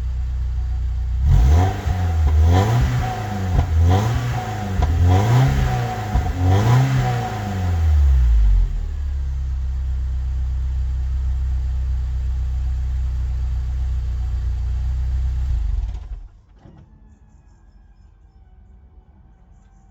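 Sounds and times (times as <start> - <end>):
car engine idling: 0.0 - 16.3.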